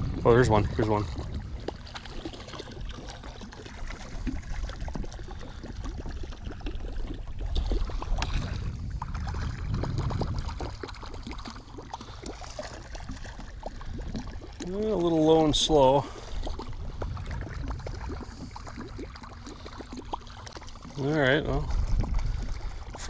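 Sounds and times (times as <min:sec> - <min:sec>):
water churning and splashing: 0:00.0 - 0:23.0.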